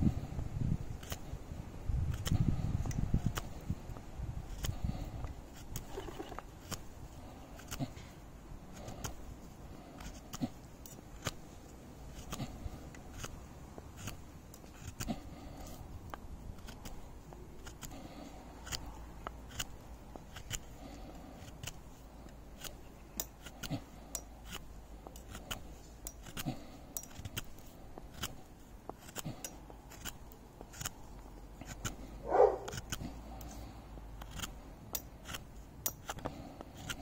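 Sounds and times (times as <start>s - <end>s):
knife whittling wood: 2.1s - 37.0s.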